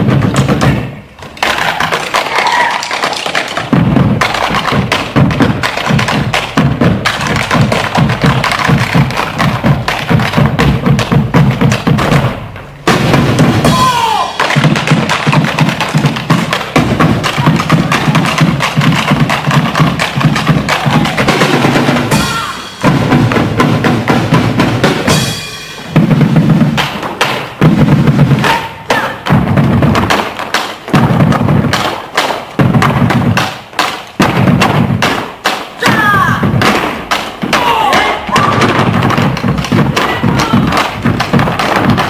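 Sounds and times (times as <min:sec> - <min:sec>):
drums beaten with sticks: 0:00.0 - 0:02.0, 0:03.6 - 0:42.0.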